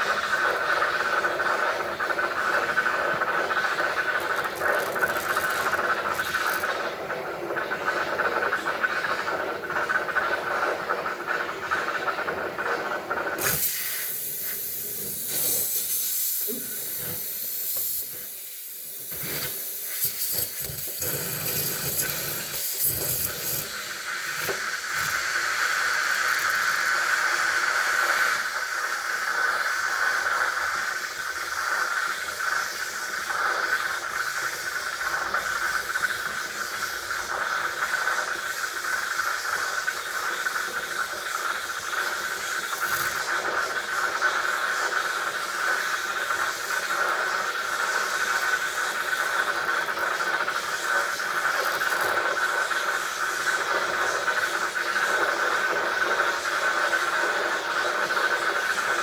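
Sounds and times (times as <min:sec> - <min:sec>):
heating tool hissing: 0:00.0 - 0:59.0.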